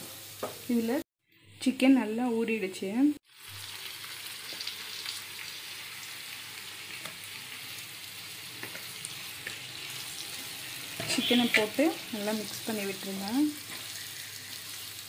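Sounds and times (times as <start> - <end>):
oil sizzling in a pan: 0.0 - 1.0, 3.2 - 15.0.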